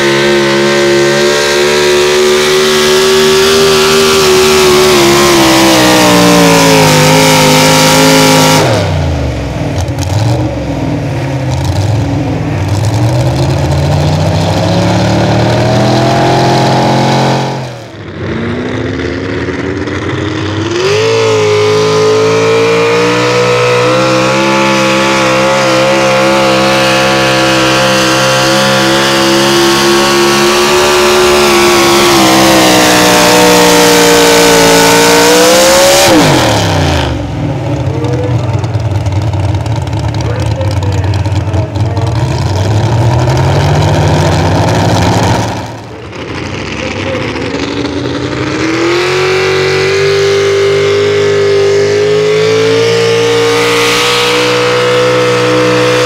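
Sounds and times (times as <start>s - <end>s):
truck engines at high revs: 0.0s - 56.0s.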